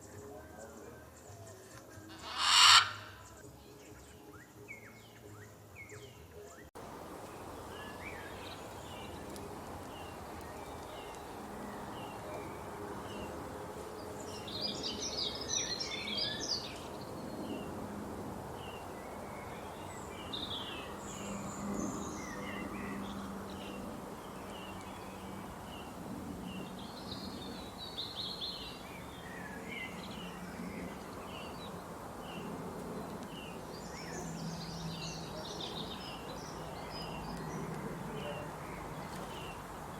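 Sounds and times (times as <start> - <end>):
birds chirping: 0.0 - 39.9
steady background hiss: 0.0 - 39.9.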